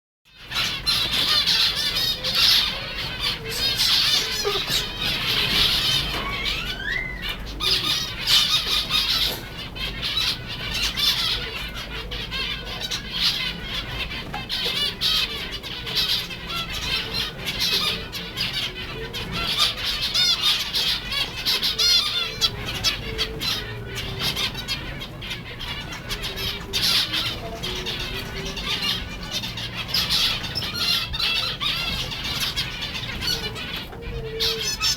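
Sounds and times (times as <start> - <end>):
finches chattering: 0.4 - 34.9.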